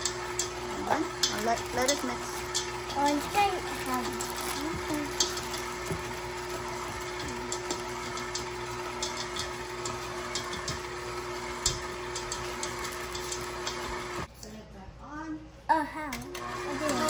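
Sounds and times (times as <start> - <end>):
stand mixer running: 0.0 - 14.3, 16.3 - 17.0.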